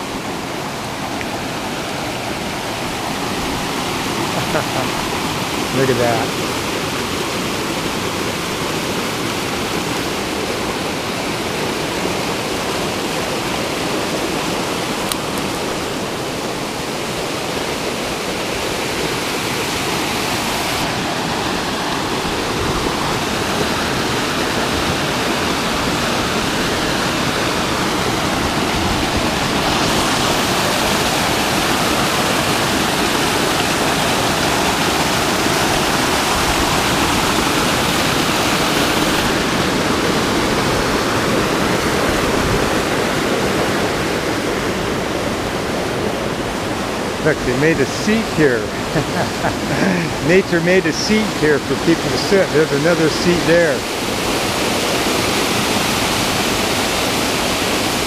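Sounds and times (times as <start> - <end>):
waterfall rushing over boulders: 0.0 - 58.0.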